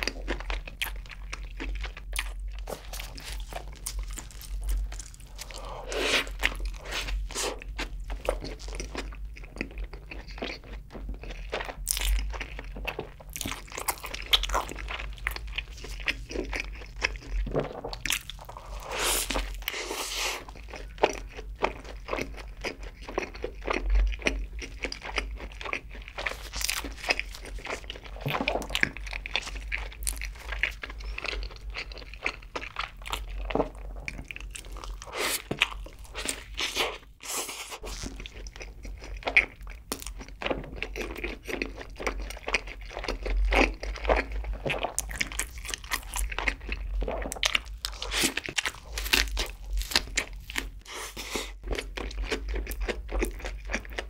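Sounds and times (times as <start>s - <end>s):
biting and chewing: 0.0s - 54.0s.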